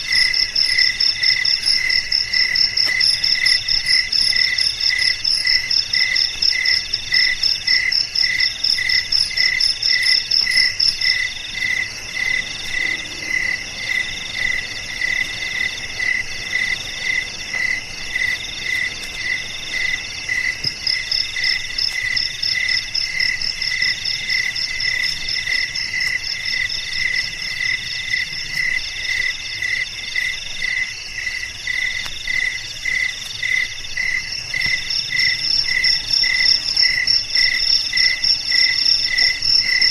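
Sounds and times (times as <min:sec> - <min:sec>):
cricket longer trills: 0:00.0 - 0:39.9.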